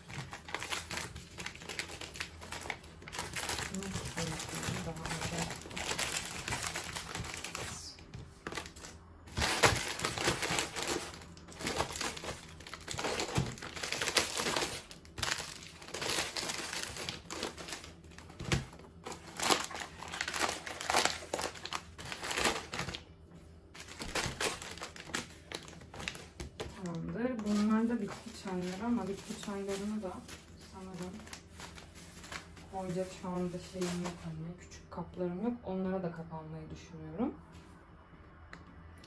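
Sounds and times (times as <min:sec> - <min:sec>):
plastic packaging crinkling: 0:00.0 - 0:23.1, 0:23.7 - 0:34.4.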